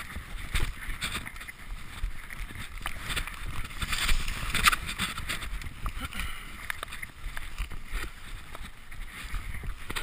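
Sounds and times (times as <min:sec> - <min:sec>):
bike rattling and knocking: 0:00.0 - 0:10.0
bike tyres rolling over dirt and leaves: 0:00.0 - 0:10.0.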